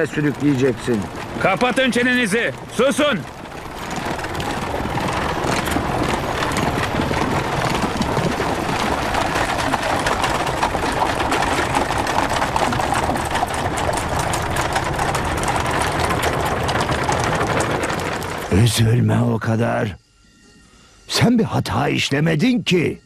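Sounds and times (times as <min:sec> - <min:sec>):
clatter of horse hooves: 0:00.0 - 0:18.7
wooden cart wheels rattling: 0:00.0 - 0:19.9.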